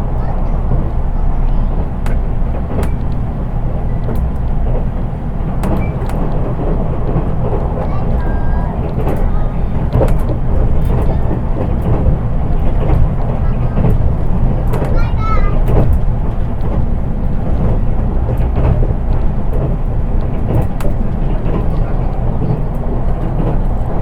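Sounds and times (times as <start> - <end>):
track clicks: 0.0 - 24.0
wheels rumbling on rail: 0.0 - 24.0.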